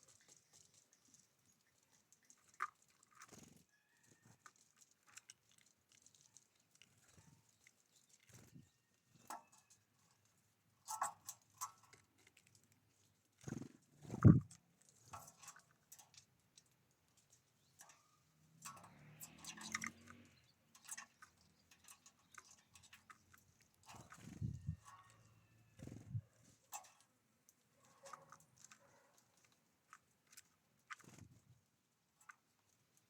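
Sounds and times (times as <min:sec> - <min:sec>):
birds pecking at a feeder: 0:00.0 - 0:33.0.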